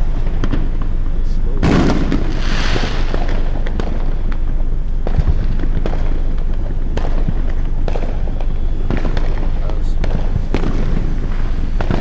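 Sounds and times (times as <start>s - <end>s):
deep boom: 0.0s - 12.0s
fireworks crackling hiss: 0.0s - 12.0s
fireworks sharp pops: 0.0s - 12.0s.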